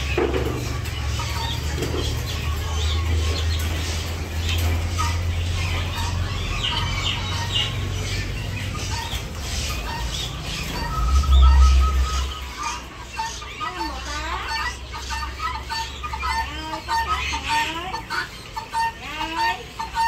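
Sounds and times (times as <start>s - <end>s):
steady low rumble: 0.0s - 17.2s
birds calling: 0.0s - 20.0s.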